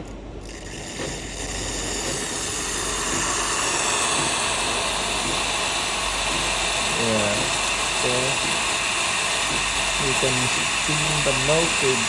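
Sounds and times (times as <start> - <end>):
steam wand hissing: 0.4 - 12.0.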